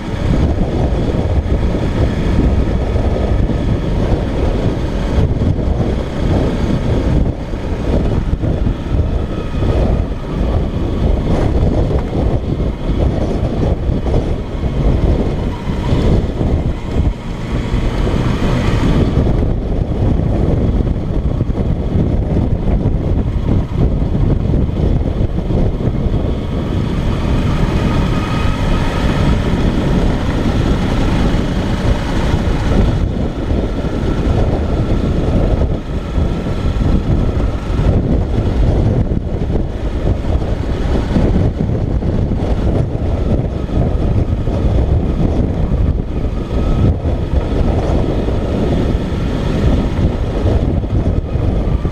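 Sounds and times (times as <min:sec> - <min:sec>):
motorcycle engine running: 0:00.0 - 0:51.9
wind buffeting microphone: 0:00.0 - 0:51.9.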